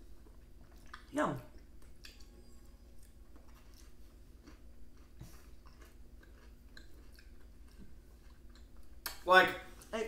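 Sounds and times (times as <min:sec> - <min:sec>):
faint chewing of cookie: 0:00.0 - 0:10.0.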